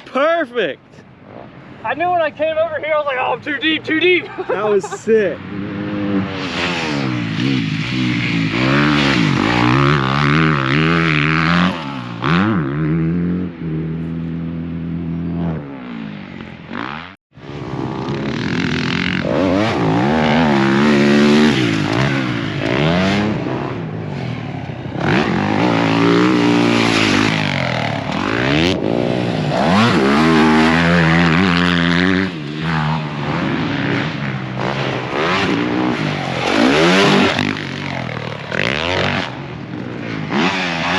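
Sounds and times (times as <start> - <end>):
motocross bike engine revving: 4.8 - 40.9.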